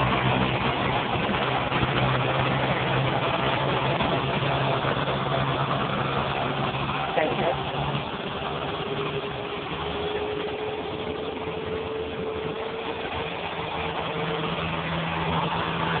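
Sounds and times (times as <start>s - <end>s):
engine idling: 0.0s - 16.0s
thin steady whine: 0.0s - 16.0s.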